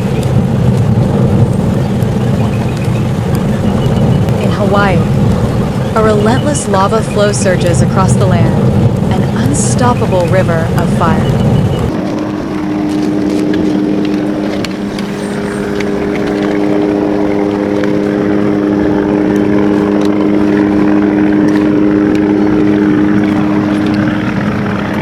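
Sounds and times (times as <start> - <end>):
propeller aircraft hum: 0.0 - 25.0.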